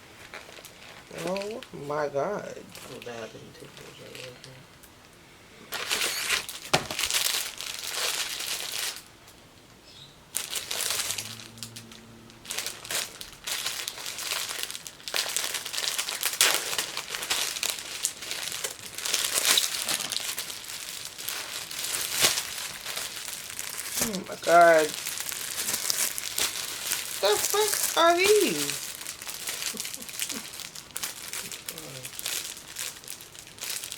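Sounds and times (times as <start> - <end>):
paper crinkling and rustling: 0.2 - 1.6, 5.7 - 9.1, 10.4 - 33.9.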